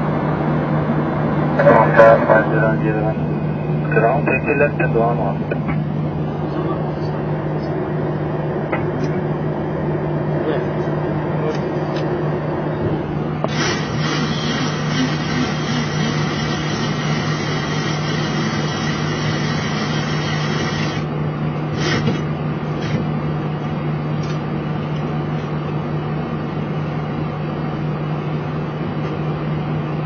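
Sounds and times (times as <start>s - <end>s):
cockpit engine and fan hum: 0.0s - 30.0s.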